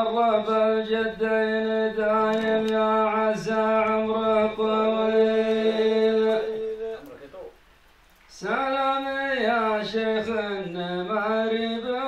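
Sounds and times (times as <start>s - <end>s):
man chanting: 0.0s - 7.6s, 8.3s - 12.0s.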